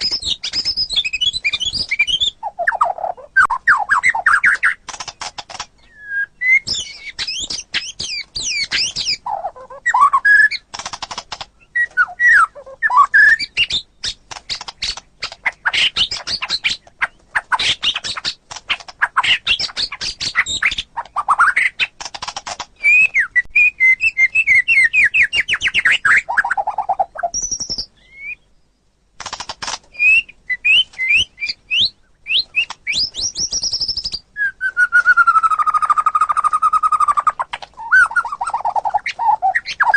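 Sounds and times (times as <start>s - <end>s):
songbird singing whistles and trills: 0.0s - 10.7s, 11.6s - 21.9s, 22.8s - 28.8s, 29.9s - 39.9s.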